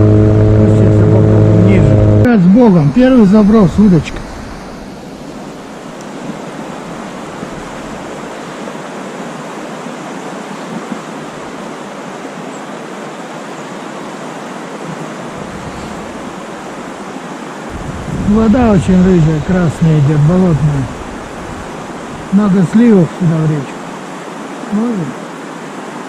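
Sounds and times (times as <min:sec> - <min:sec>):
river rushing over rapids: 0:00.8 - 0:26.0.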